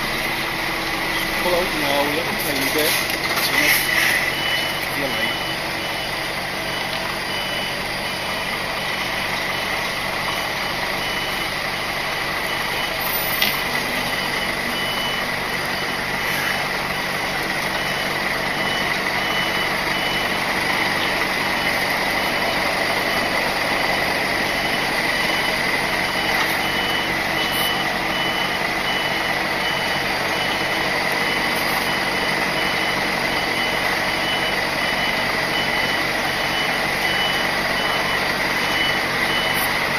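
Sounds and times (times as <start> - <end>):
diesel engine running: 0.0 - 39.9
lorry reversing alarm beeping: 0.0 - 39.9.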